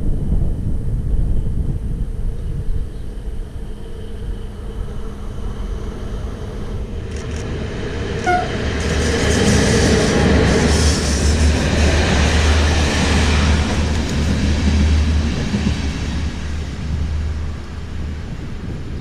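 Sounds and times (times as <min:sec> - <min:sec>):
rail and wheel noise: 0:00.0 - 0:19.0
train low rumble: 0:00.0 - 0:19.0.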